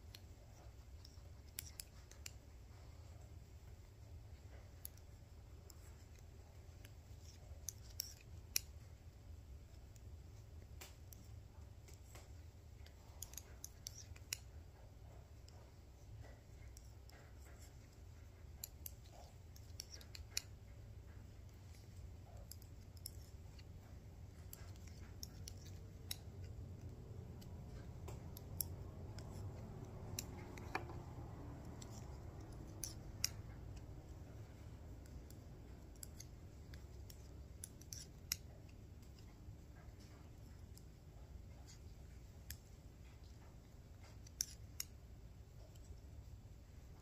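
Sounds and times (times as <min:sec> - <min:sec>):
knitting needles clicking: 0:00.0 - 0:47.0
steady low hum: 0:00.0 - 0:47.0.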